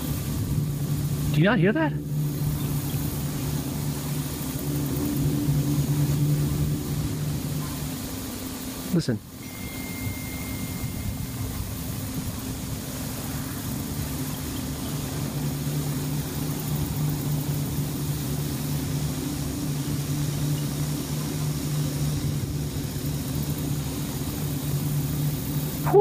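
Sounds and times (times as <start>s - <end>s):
low droning hum: 0.0s - 26.0s.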